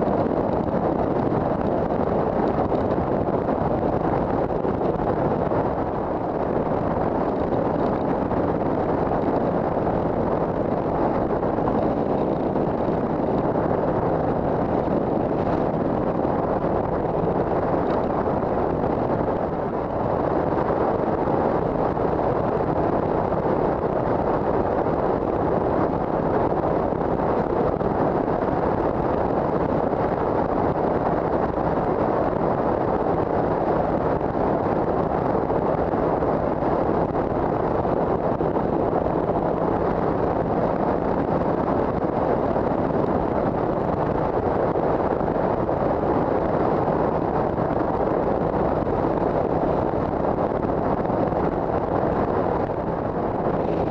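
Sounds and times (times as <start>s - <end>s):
motorcycle engine drone: 0.0s - 53.9s
wind buffeting microphone: 0.0s - 53.9s.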